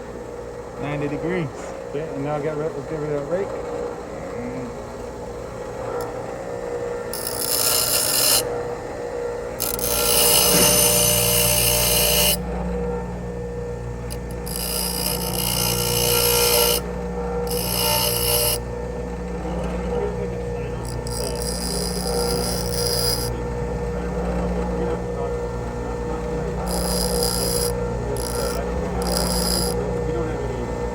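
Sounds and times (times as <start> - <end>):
bench grinder humming: 0.0 - 30.9
drill bit grinding on wheel: 2.1 - 12.5, 14.0 - 30.7.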